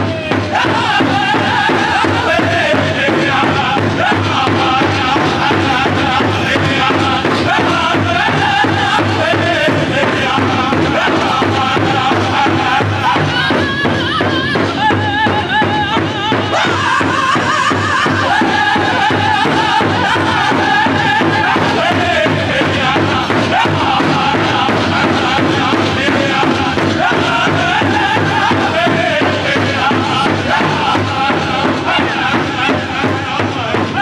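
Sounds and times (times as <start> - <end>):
group singing in wavering voices: 0.0 - 34.0
steady drumbeat: 0.0 - 34.0.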